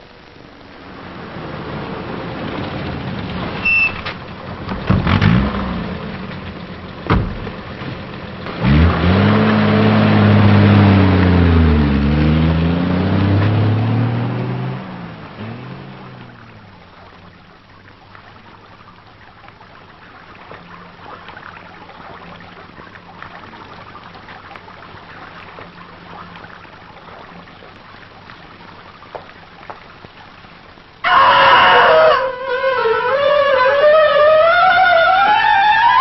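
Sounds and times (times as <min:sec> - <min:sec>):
fountain water splashing: 0:00.0 - 0:36.0.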